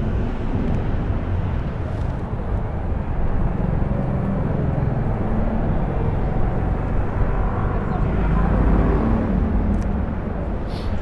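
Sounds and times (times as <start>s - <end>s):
rumble of passing traffic: 0.0s - 11.0s.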